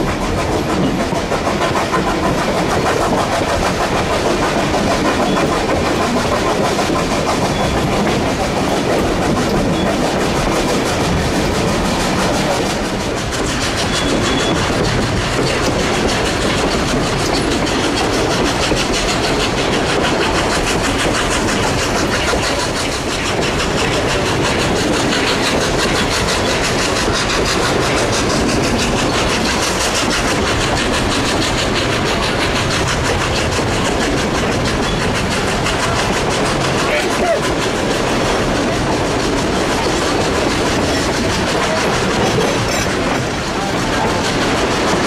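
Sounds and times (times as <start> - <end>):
steam train wheels rattling: 0.0 - 45.0.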